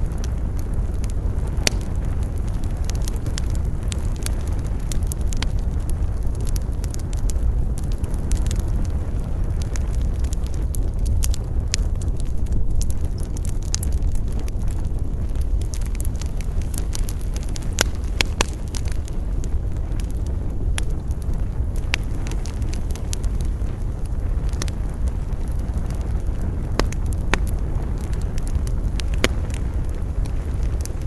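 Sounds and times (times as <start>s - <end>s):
campfire crackling and popping: 0.0s - 31.0s
low wind rumble: 0.0s - 31.0s.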